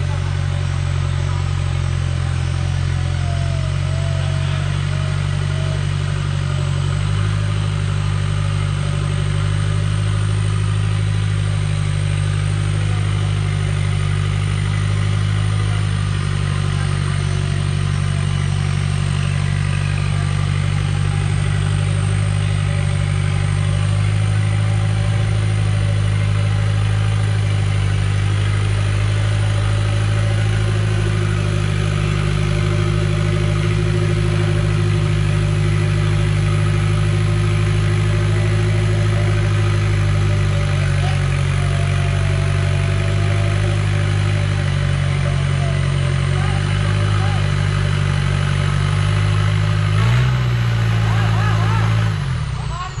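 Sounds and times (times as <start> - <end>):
truck engine idling low: 0.0 - 53.0.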